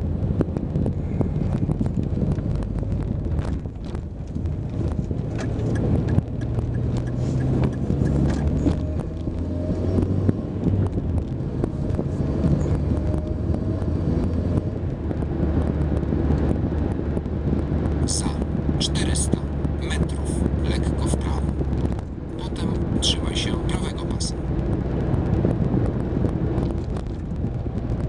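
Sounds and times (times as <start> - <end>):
car engine and tyre noise: 0.0 - 28.0.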